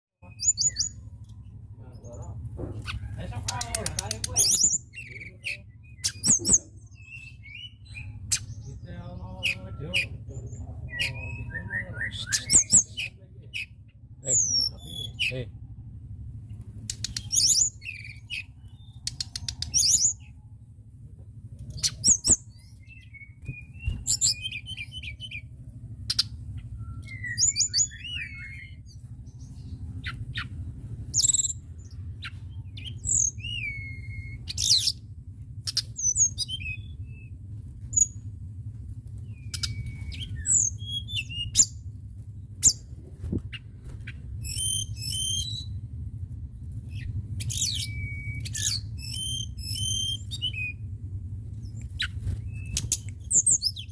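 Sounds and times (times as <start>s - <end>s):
songbird singing: 0.2s - 38.4s, 39.1s - 53.9s
low hum: 0.2s - 53.9s.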